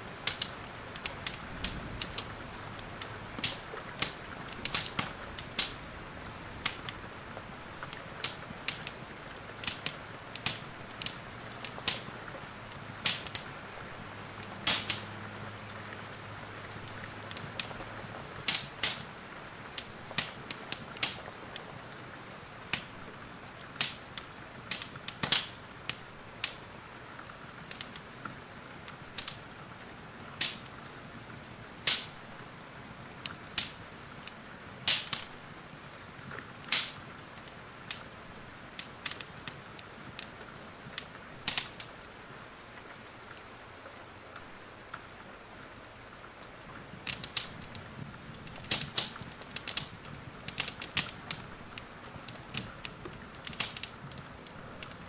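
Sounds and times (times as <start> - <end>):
wood fire crackling: 0.0 - 43.6, 44.3 - 55.0
rain hissing: 0.0 - 55.0.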